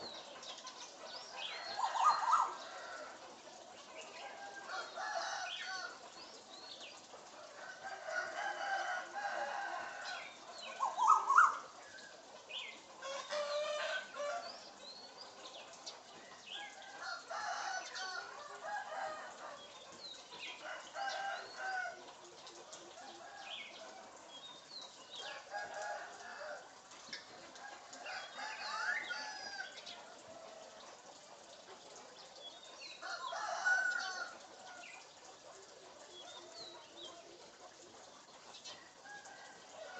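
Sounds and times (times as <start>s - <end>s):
chicken clucking and crowing: 0.0s - 6.3s, 7.0s - 24.4s, 25.1s - 32.1s, 32.8s - 39.9s.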